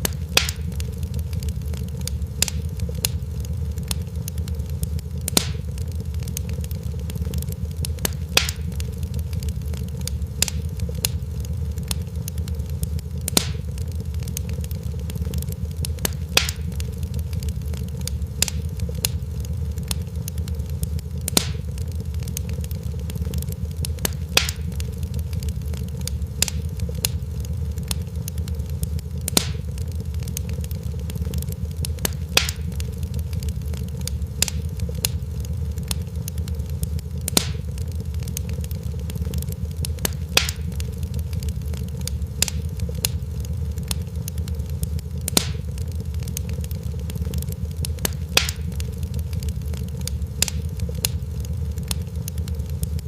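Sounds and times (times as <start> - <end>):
fire pops: 0.0 - 53.0
fireplace fire crackling: 0.0 - 53.0.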